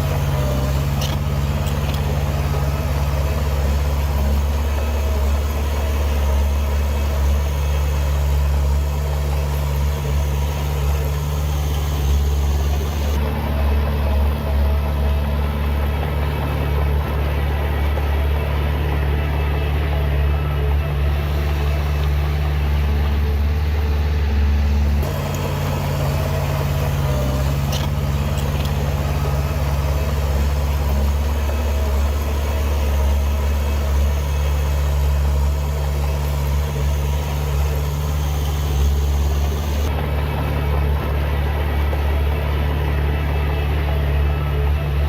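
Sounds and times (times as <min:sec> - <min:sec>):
heavy diesel engine droning: 0:00.0 - 0:45.0.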